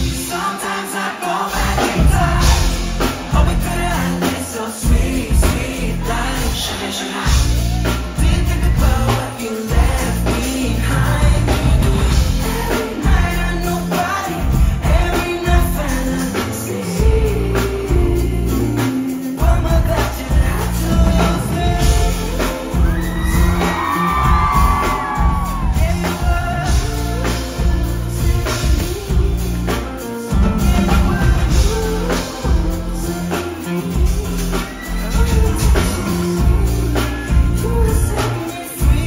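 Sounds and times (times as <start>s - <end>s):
live pop band playing: 0.0s - 39.0s
man singing lead vocal: 0.0s - 39.0s.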